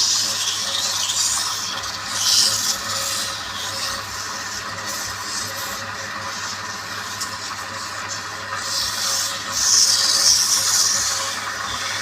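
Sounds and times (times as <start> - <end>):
tool scraping spinning wood: 0.0 - 12.0
wood lathe humming: 0.0 - 12.0.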